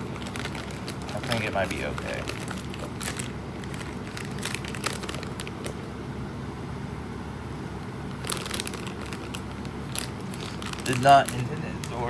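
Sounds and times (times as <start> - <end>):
packaging crinkling: 0.0 - 5.8, 8.1 - 12.0
low background hum: 0.0 - 12.0.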